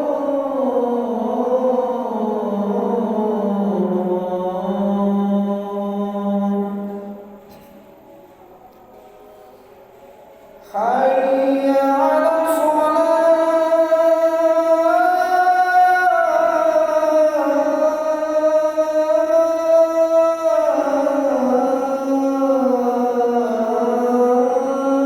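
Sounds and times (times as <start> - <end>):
man singing call to prayer: 0.0 - 7.4, 10.6 - 25.0.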